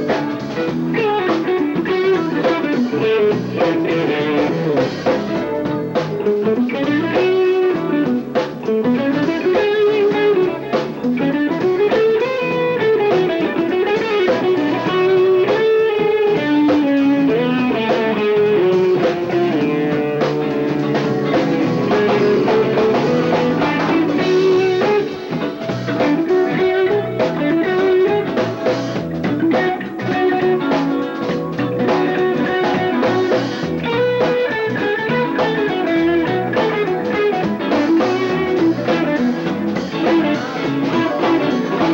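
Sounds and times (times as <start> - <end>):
drum kit: 0.0 - 41.9
electric guitar lead: 0.0 - 41.9
muffled rock band playing: 0.0 - 41.9.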